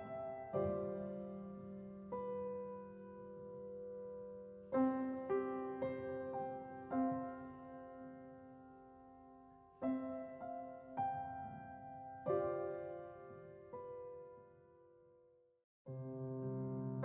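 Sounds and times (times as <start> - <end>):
slow soft piano chords: 0.0 - 15.3, 15.9 - 17.0.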